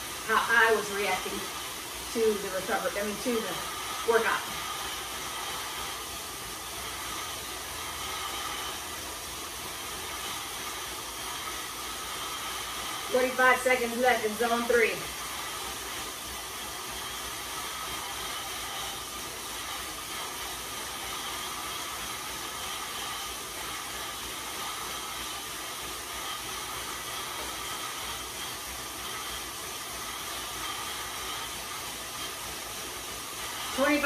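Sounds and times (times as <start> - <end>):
bike tyres whirring on rollers: 0.0 - 34.0.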